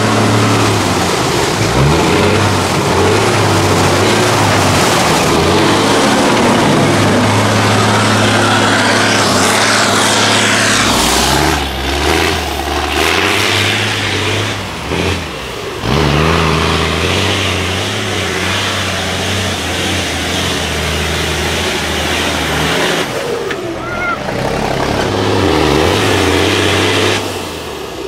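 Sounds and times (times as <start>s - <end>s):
diesel truck engine revving: 0.0s - 28.0s.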